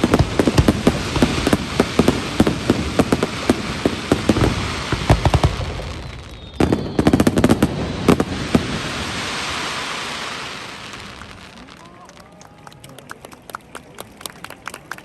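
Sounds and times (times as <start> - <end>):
fireworks bangs and crackles: 0.0 - 12.5
crackling hiss: 0.0 - 13.4.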